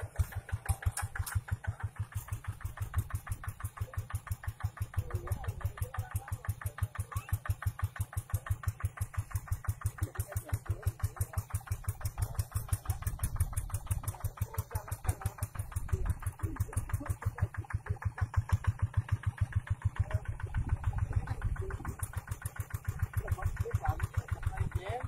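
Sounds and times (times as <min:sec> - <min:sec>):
diesel engine chugging: 0:00.0 - 0:25.0.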